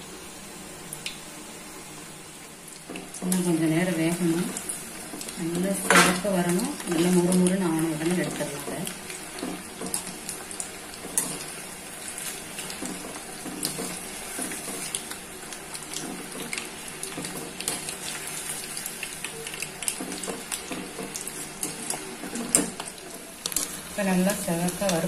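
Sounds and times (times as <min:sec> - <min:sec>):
fish deep-frying in oil: 0:02.2 - 0:25.0.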